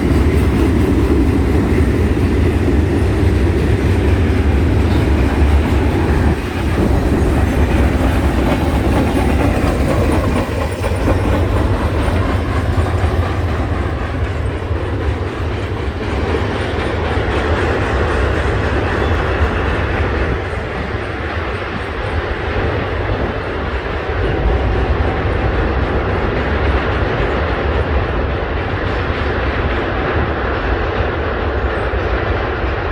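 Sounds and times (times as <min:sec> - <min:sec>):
wheels clacking over rail joints: 0:00.0 - 0:32.3
freight train rolling past: 0:00.0 - 0:32.9.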